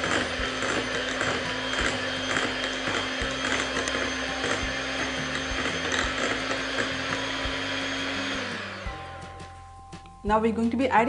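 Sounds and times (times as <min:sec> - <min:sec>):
electric hand mixer whirring: 0:00.0 - 0:09.3.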